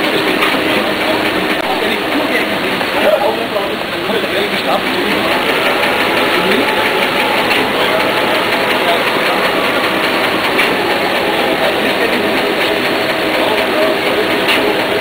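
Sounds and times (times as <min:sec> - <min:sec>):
printing machine clattering: 0:00.0 - 0:15.0.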